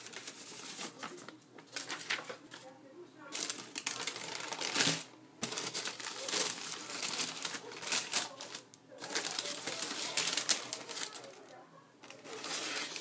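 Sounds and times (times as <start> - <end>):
paper and packaging rustling: 0.0 - 13.0.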